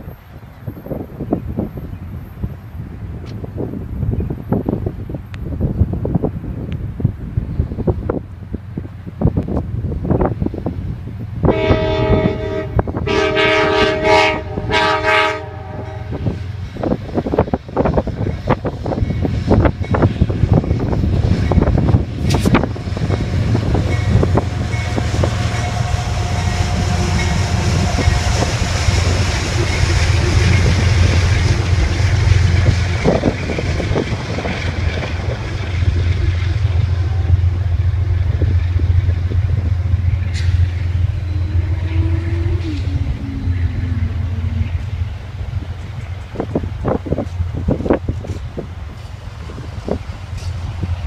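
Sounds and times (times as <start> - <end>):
diesel locomotive rumbling: 0.0 - 51.0.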